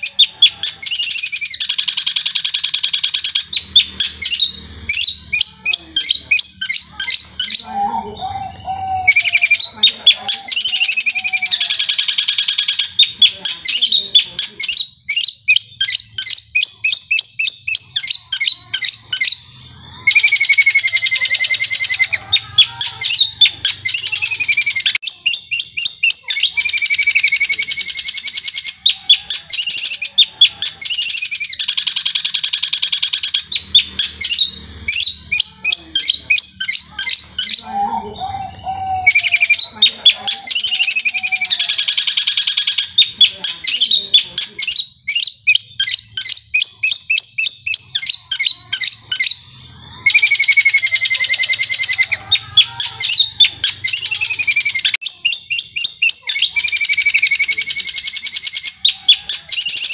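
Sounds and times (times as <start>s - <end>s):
bird singing rapid trills: 0.0s - 59.9s.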